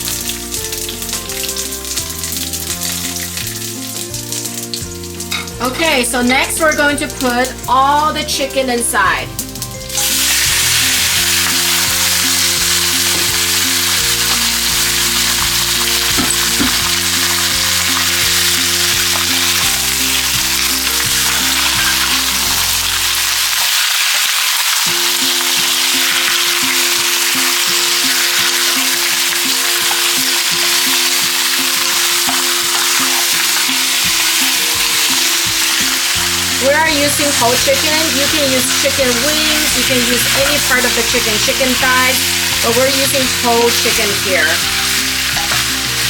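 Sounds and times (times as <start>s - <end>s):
background music: 0.0s - 46.0s
chicken frying in oil: 0.0s - 46.0s.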